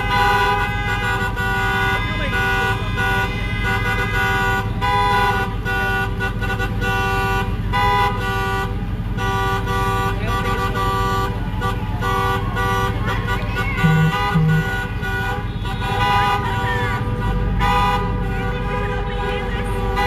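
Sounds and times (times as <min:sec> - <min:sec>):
car horns honking: 0:00.0 - 0:20.0
traffic rumble: 0:00.0 - 0:20.0.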